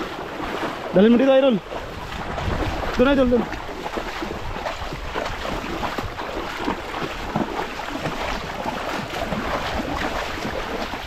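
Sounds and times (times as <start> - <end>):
footsteps splashing in water: 0.0 - 11.0
surf washing onto sand: 0.0 - 11.0.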